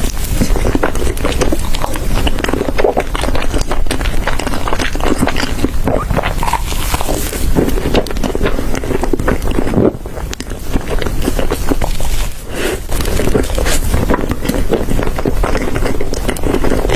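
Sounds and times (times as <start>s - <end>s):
person chewing crunchy food: 0.0s - 16.9s.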